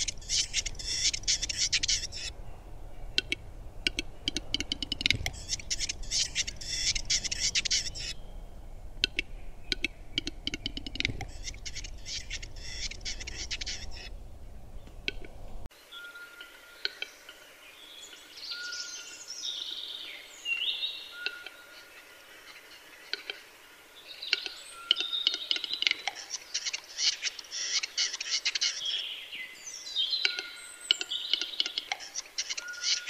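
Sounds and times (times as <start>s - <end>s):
forest birds whistling: 0.0s - 15.3s, 15.9s - 23.4s, 24.0s - 33.0s.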